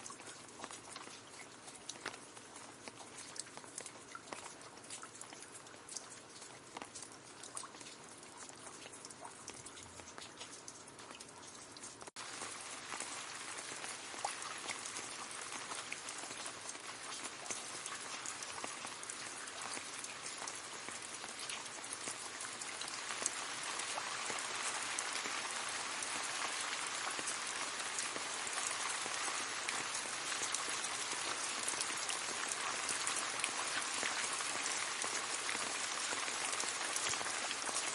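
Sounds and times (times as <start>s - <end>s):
rain falling on leaves: 0.0s - 37.9s.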